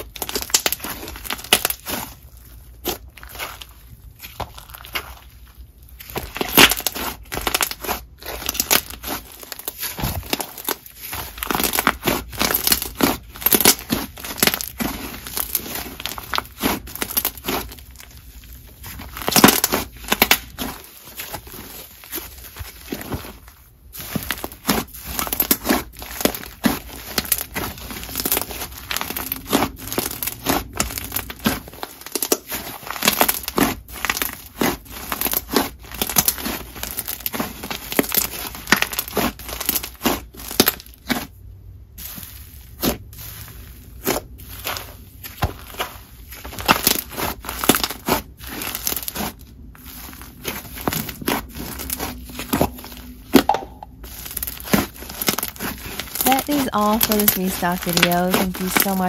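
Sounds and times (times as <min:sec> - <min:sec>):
sticky slime crackles and pops: 0:00.0 - 0:41.4, 0:42.0 - 0:59.0.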